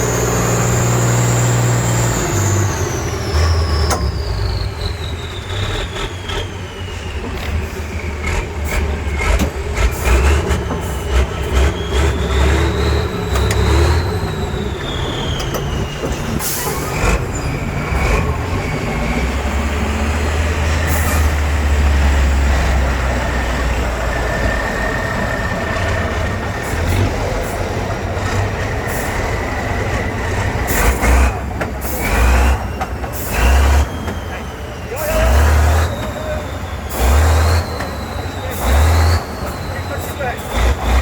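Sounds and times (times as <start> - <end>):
truck diesel engine under load: 0.0 - 41.0.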